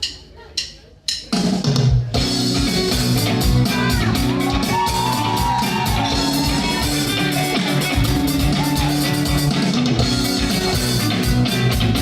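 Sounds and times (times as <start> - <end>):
live rock band playing: 1.2 - 12.0.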